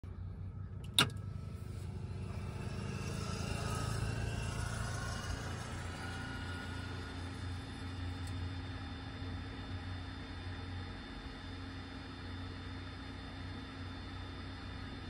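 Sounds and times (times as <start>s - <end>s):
electrical hum with whine: 0.0s - 15.0s.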